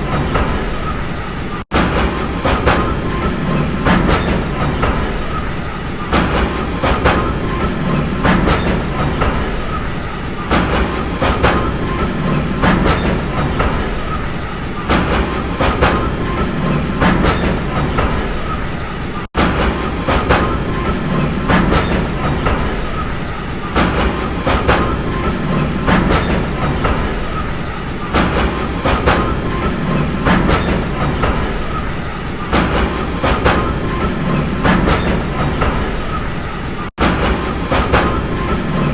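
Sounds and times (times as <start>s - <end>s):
train rumbling on track: 0.0s - 38.9s
wheels clicking over rail joints: 0.0s - 38.9s.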